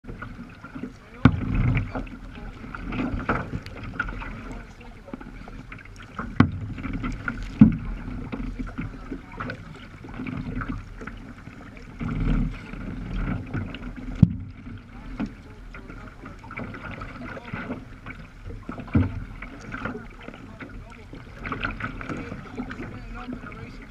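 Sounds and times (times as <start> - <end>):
water splashing against kayak bow: 0.0 - 23.9.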